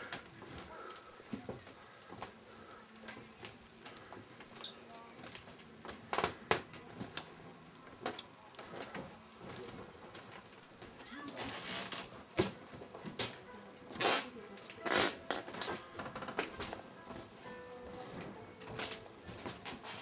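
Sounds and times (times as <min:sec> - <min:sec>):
faint background voices: 0:00.0 - 0:20.0.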